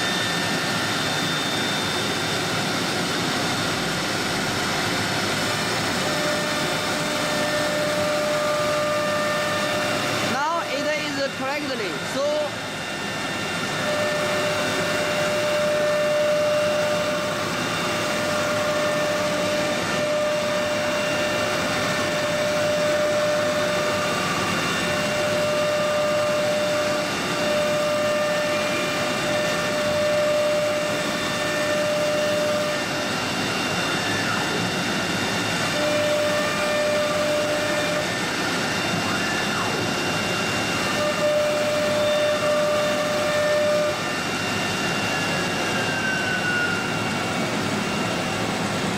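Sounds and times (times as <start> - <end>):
wood router machine running: 0.0 - 48.9.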